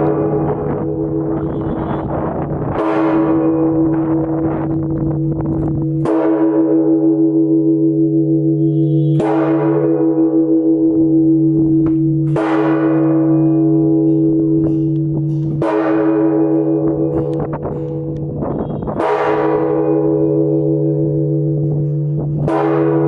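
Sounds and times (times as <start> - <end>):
deep church bell ringing: 0.0 - 23.0.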